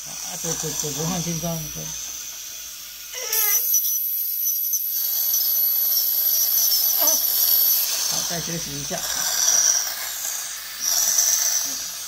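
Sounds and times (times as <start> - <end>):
dental scaler high whine: 0.0 - 12.0.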